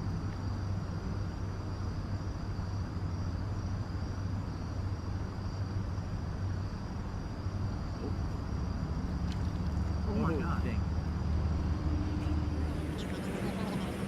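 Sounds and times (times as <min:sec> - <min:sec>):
insects buzzing: 0:00.0 - 0:14.0
low steady rumble: 0:00.0 - 0:14.0.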